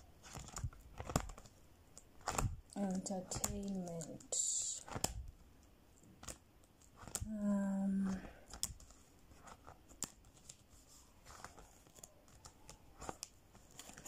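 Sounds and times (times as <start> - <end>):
plastic binder pages rustling: 0.0 - 14.0.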